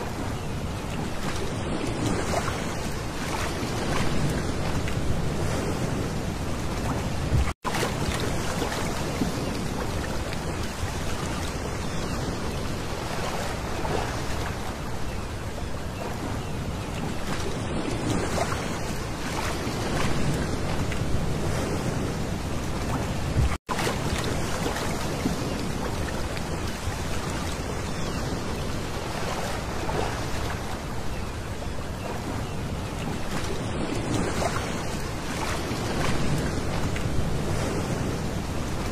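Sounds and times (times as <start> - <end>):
waves washing over pebbles: 0.0 - 15.0, 17.0 - 31.2, 31.9 - 38.9.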